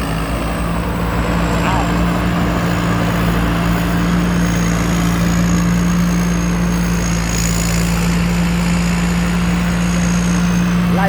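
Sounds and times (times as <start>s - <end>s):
harvester engine hum: 0.0s - 11.0s
thin high machinery whine: 0.0s - 11.0s.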